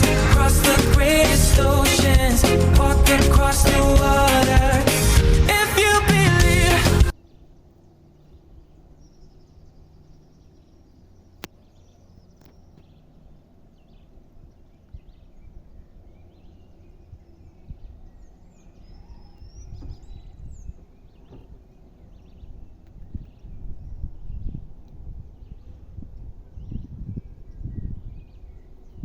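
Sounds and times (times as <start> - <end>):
low rumbling noise: 0.0 - 28.9.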